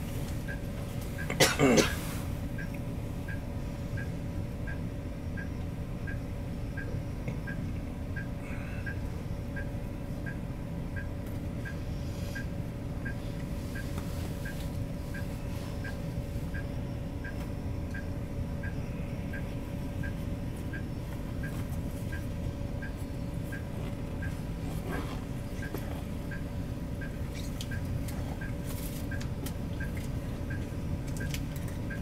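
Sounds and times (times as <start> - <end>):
bus engine idling: 0.0 - 32.0
turn signal ticking: 2.6 - 11.8, 12.4 - 24.6, 25.2 - 32.0.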